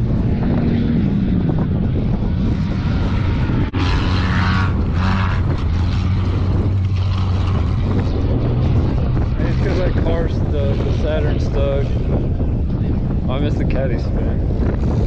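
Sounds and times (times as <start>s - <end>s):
racing car engines droning: 0.0s - 15.0s.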